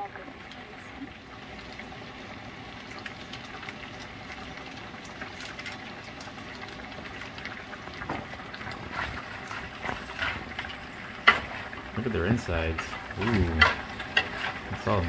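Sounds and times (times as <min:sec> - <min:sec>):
crackles and pops: 0:00.0 - 0:15.0
lobster sizzling in a wok: 0:00.0 - 0:15.0.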